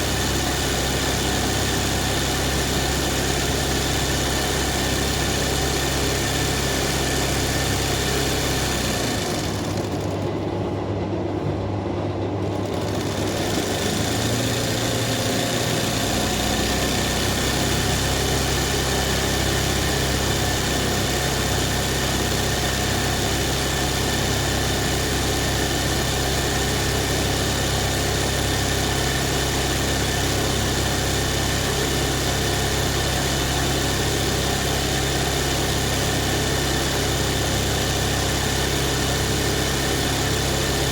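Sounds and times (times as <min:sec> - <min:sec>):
embroidery machine running: 0:00.0 - 0:40.9.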